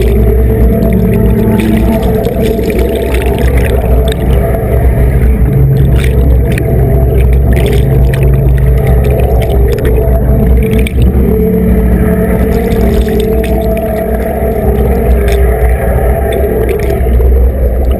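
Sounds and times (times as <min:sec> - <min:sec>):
churning bubbles hissing: 0:00.0 - 0:17.9
low hum: 0:00.0 - 0:17.9
underwater engine and propeller drone: 0:00.0 - 0:17.9.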